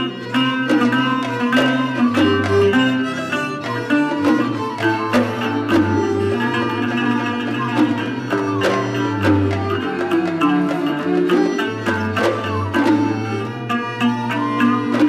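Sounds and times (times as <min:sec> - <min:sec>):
hand drum beat: 0:00.0 - 0:15.0
plucked and bowed string melody: 0:00.0 - 0:15.0.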